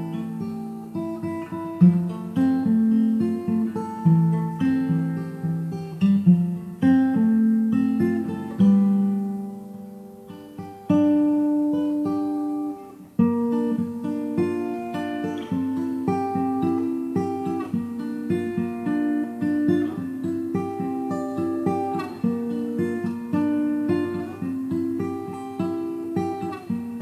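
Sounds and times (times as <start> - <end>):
acoustic guitar plucked notes: 0.0 - 27.0.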